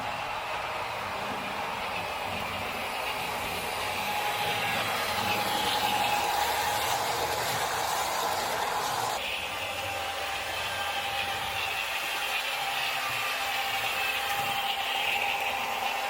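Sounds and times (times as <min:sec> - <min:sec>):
model train running with humming: 0:00.0 - 0:16.0.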